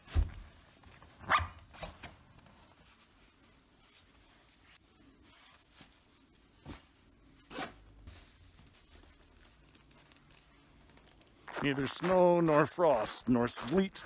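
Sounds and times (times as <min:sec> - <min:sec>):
clothing rustling: 0:00.0 - 0:14.0.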